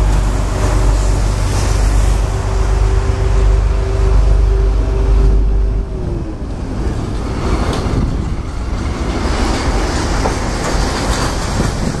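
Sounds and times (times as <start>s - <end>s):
freight train rumbling past: 0.0s - 12.0s
wheels clacking over rail joints: 0.0s - 12.0s.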